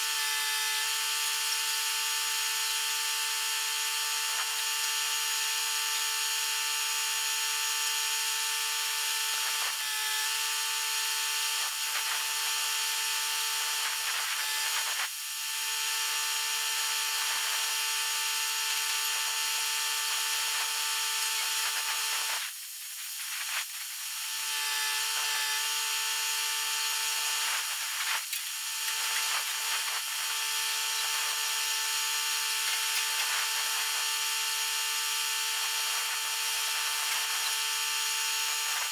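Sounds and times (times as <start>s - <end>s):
power tool whining: 0.0s - 38.9s.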